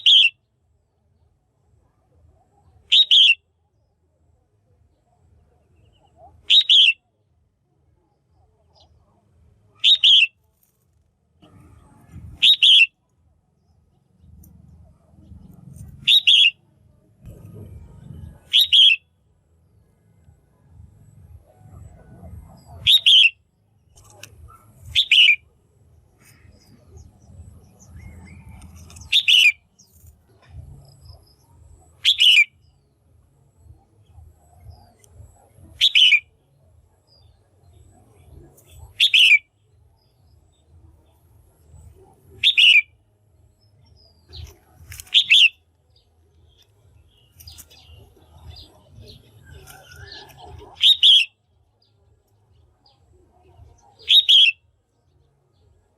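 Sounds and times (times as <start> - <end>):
bird chirping: 0.0 - 1.3, 1.9 - 4.1, 4.9 - 7.1, 8.0 - 55.9
faint low rumble: 7.2 - 55.9.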